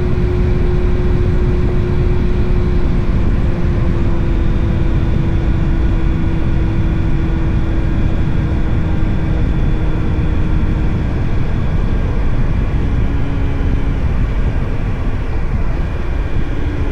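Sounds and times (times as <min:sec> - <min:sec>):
motorcycle engine running: 0:00.0 - 0:16.9
wind rushing on microphone: 0:00.0 - 0:16.9.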